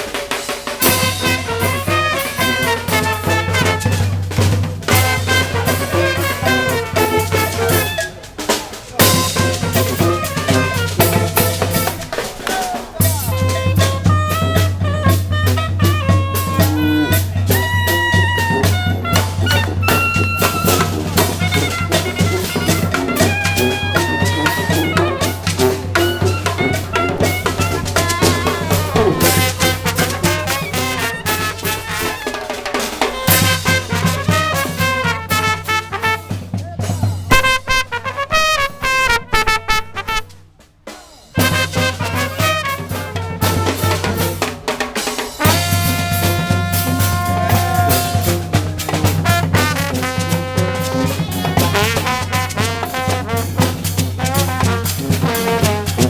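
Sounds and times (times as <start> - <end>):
brass band playing: 0.0 - 56.0
steady drumming: 0.0 - 56.0.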